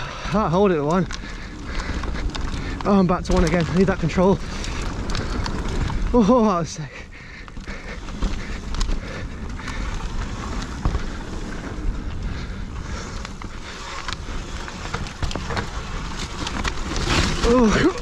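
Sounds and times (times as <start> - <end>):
bike knocking and rattling: 0.0 - 18.0
bike tyres on gravel: 0.0 - 18.0.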